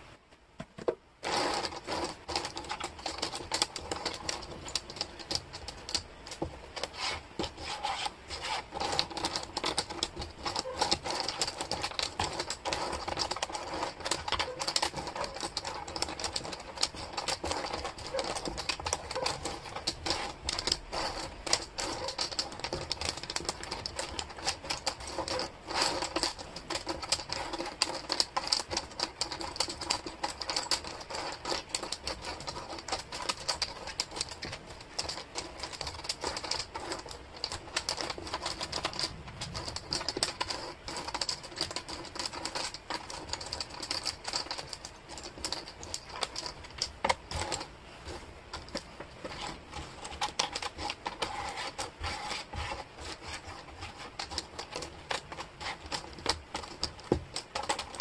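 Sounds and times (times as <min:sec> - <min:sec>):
wooden puzzle pieces clicking: 0:01.2 - 0:58.0.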